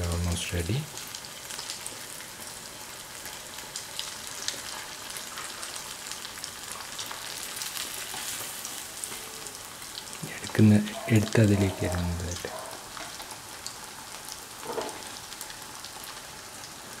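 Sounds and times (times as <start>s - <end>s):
food frying with crackles: 0.0s - 17.0s.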